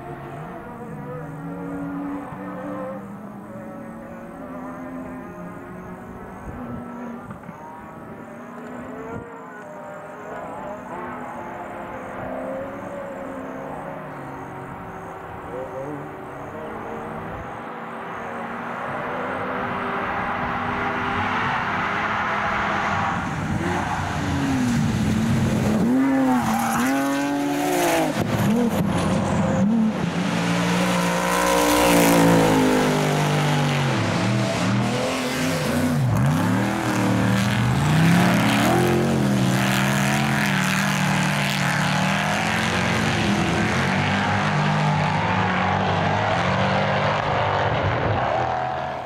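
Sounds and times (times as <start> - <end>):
racing engines revving past: 0.0 - 49.0.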